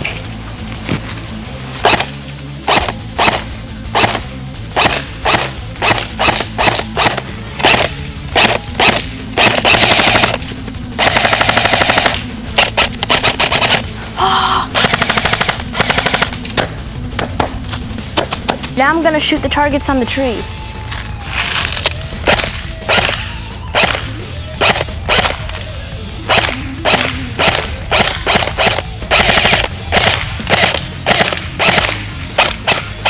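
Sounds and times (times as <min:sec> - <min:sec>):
airsoft gun firing: 0:01.8 - 0:13.9, 0:14.7 - 0:18.6, 0:21.5 - 0:33.0.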